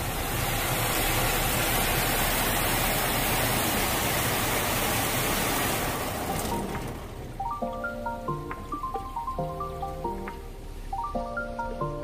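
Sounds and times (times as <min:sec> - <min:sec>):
car wash water jets spraying: 0:00.0 - 0:12.0.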